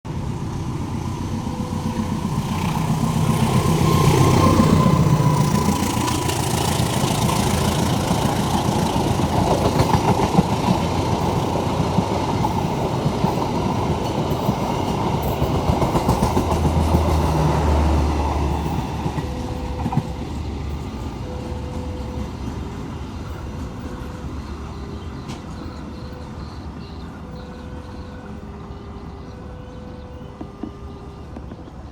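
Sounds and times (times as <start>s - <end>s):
locomotive engine passing: 0.1s - 31.9s
train wheels clattering over rails: 0.7s - 27.8s.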